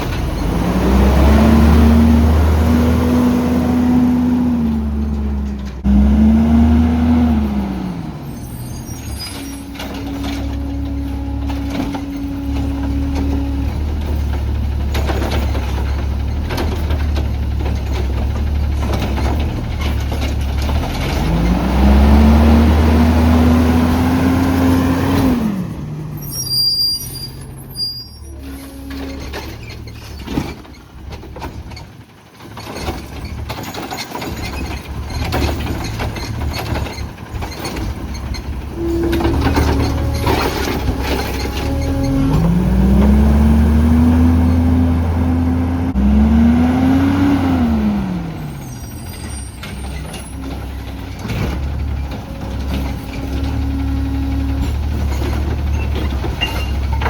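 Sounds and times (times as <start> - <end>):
garbage truck engine revving: 0.0 - 57.0.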